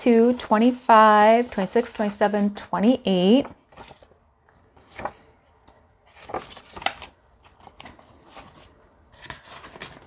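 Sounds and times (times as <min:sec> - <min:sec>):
paper and plastic rustling: 0:00.0 - 0:02.7, 0:03.3 - 0:10.0.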